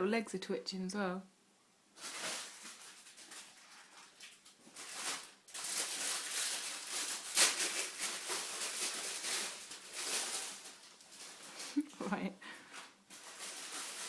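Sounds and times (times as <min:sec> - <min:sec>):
puppy rustling and scratching bedding: 0:02.0 - 0:12.0, 0:12.6 - 0:14.0.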